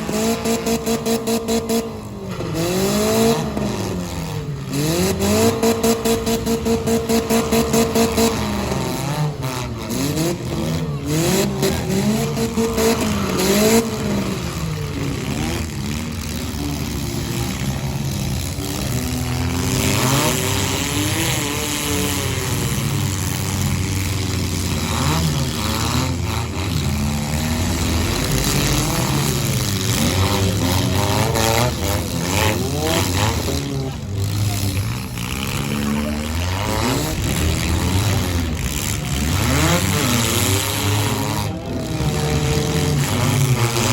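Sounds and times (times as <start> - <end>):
car engines revving: 0.0 - 43.9
engine on rev limiter: 0.0 - 43.9.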